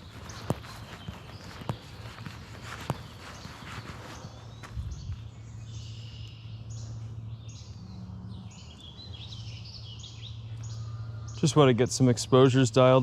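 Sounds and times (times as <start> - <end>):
songbirds calling: 0.0 - 13.0
steady low hum: 0.0 - 13.0.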